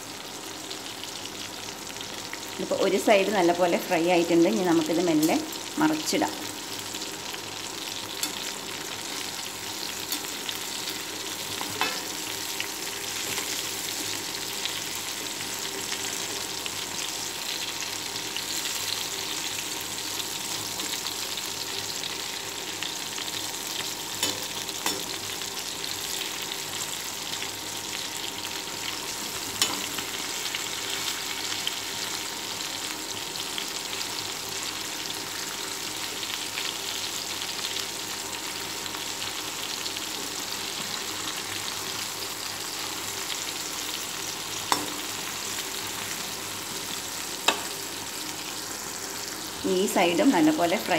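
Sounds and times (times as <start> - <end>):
chicken sizzling in hot oil: 0.0 - 50.9.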